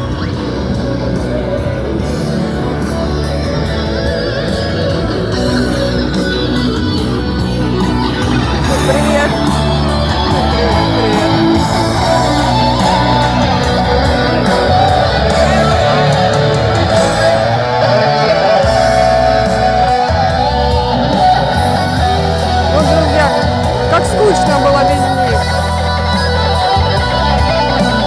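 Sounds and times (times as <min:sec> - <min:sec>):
amplified electric guitar: 0:00.0 - 0:28.0
low bass: 0:00.0 - 0:28.0
street band playing rock music: 0:00.0 - 0:28.0.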